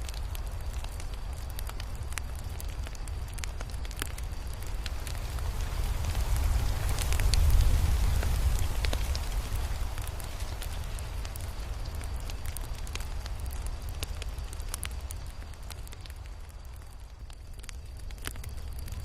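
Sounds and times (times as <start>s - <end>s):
fire crackling: 0.0s - 19.0s
low rumble of flame: 0.0s - 19.0s.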